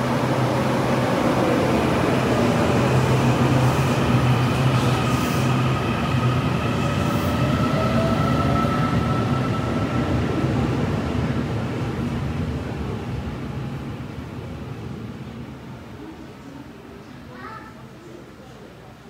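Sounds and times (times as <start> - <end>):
train rumble with high whine: 0.0 - 17.2.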